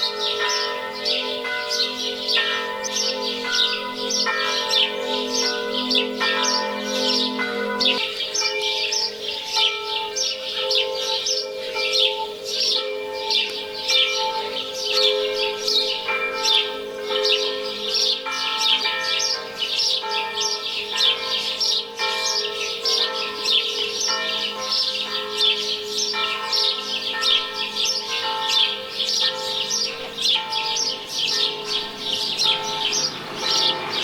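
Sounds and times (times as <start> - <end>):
church bells ringing: 0.0 - 34.0
small birds chirping: 0.0 - 34.0.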